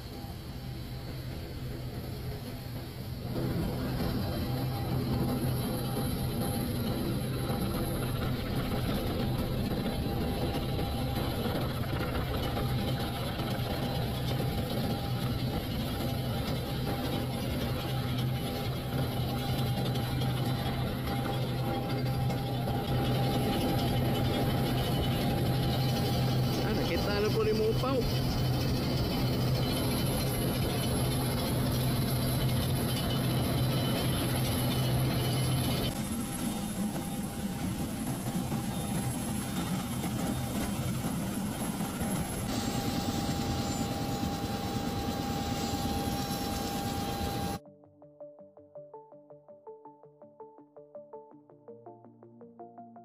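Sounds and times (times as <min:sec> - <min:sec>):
helicopter rotors droning: 0:00.0 - 0:47.6.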